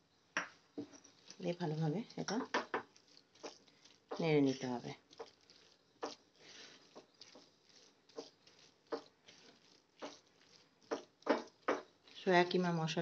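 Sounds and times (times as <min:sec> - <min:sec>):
soft rustle: 0:00.5 - 0:13.0
spatula scraping frying pan: 0:00.8 - 0:13.0.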